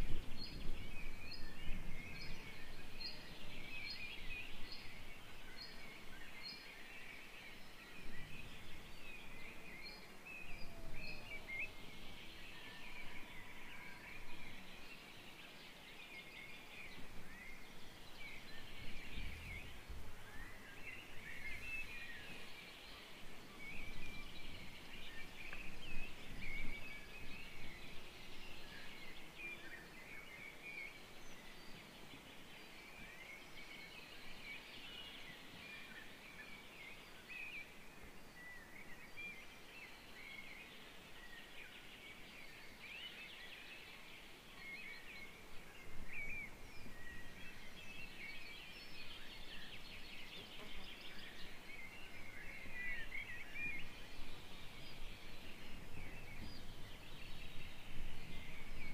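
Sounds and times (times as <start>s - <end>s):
songbirds chirping and warbling: 0.0s - 58.9s.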